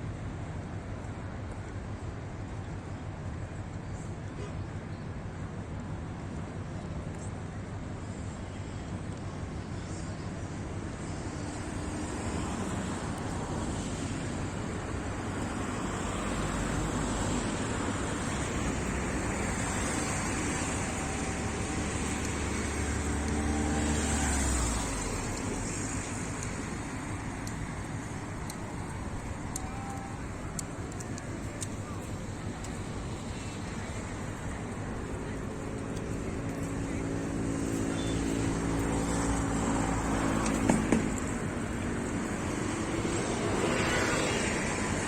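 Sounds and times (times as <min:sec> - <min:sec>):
road traffic: 0:00.0 - 0:45.0
heavy vehicle engine rumble: 0:05.4 - 0:45.0.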